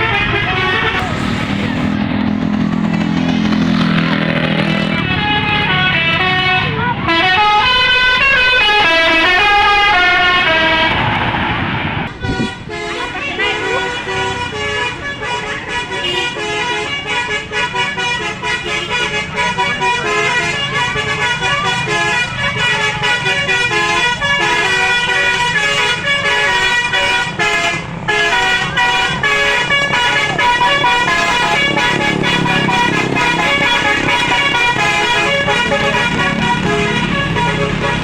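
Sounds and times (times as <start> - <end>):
bus horn playing a tune: 0.0 - 38.0.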